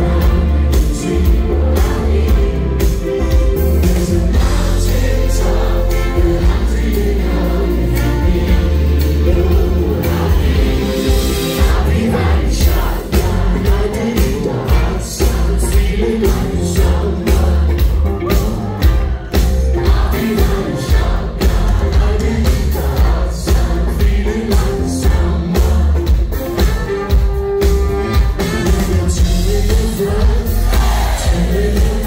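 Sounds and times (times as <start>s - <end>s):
bass: 0.0s - 32.0s
drums: 0.0s - 32.0s
electric guitars: 0.0s - 32.0s
keyboard: 0.0s - 32.0s
person singing: 0.0s - 32.0s.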